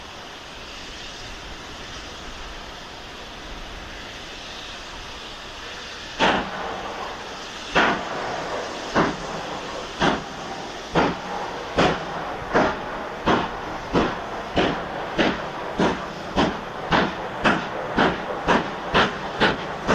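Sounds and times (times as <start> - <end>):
steam hissing: 0.0 - 19.9
steam locomotive exhaust beats: 0.0 - 19.9.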